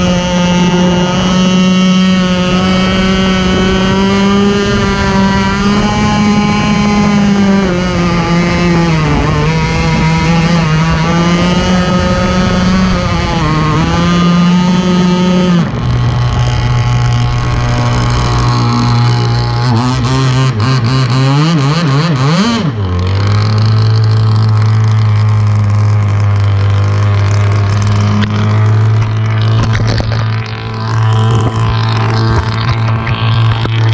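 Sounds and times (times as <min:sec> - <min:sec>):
speedboat engine running: 0:00.0 - 0:33.9.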